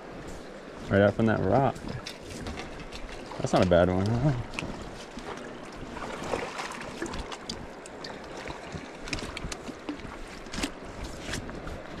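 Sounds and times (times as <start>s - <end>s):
rushing river water: 0.0s - 12.0s
small splashes and knocks: 1.7s - 12.0s.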